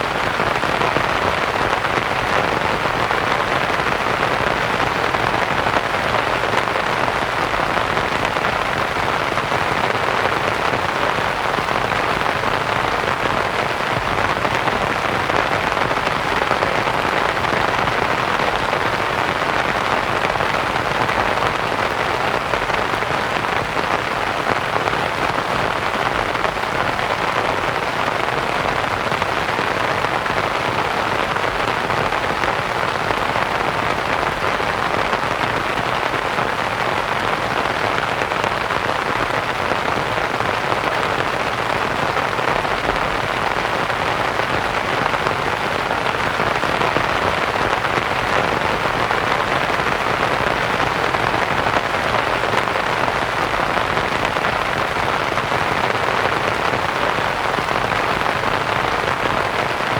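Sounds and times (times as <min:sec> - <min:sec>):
rain pattering on a tent: 0:00.0 - 0:59.9
white noise hiss: 0:00.0 - 0:59.9.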